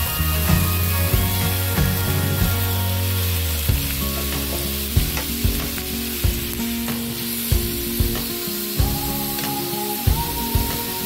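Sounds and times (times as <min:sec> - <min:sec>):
background music: 0:00.0 - 0:11.0
onions and peppers sizzling in pan: 0:00.0 - 0:11.0.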